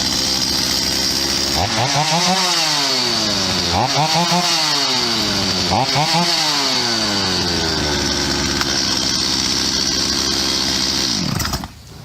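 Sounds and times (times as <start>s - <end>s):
chainsaw engine idling: 0.0s - 11.8s.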